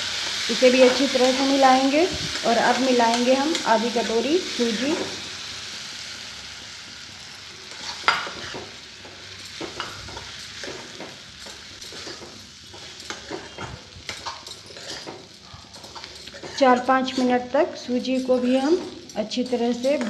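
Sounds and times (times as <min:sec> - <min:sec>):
vegetables sizzling in oil: 0:00.0 - 0:20.0
metal spoon scraping a pan: 0:00.2 - 0:05.2, 0:07.7 - 0:20.0.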